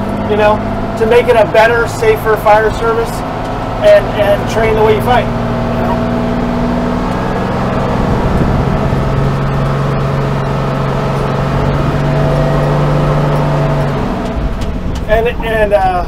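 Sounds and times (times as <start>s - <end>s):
fire engine running: 0.0s - 16.0s
road rumble: 0.0s - 16.0s.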